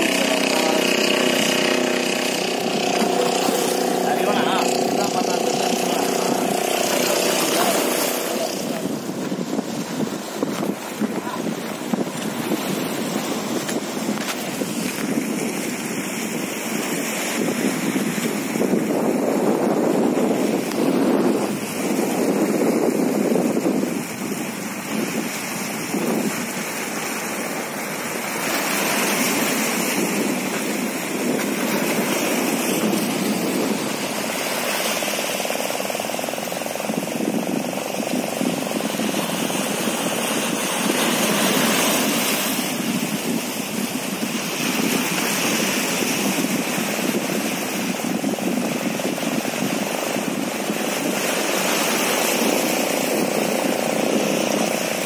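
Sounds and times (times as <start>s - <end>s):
surf washing among rocks: 0.0s - 55.0s
wind buffeting microphone: 0.0s - 55.0s.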